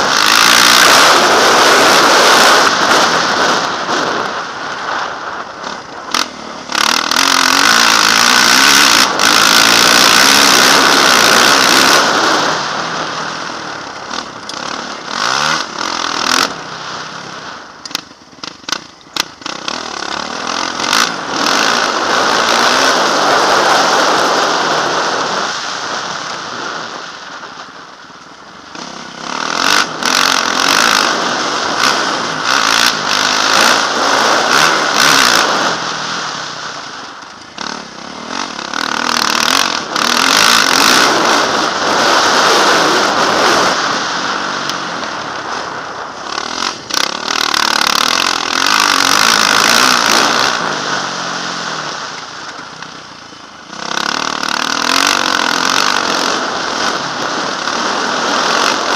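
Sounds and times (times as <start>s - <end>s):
motocross bike engine revving: 0.0s - 27.1s, 28.1s - 58.9s.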